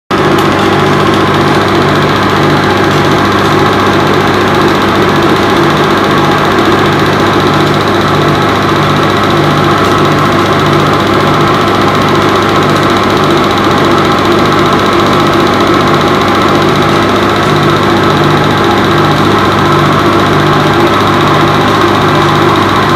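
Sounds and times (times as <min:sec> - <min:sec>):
film projector running: 0:00.1 - 0:22.9.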